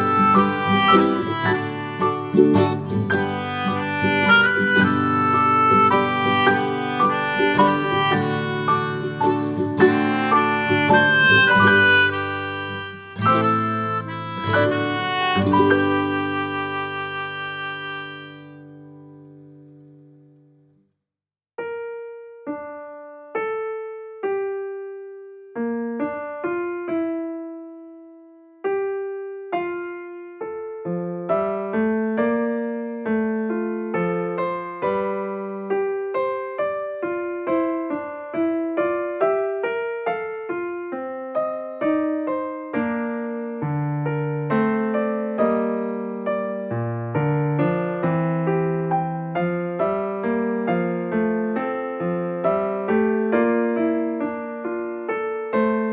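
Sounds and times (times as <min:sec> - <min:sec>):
gentle piano music: 0:00.0 - 0:20.4, 0:21.6 - 0:55.9.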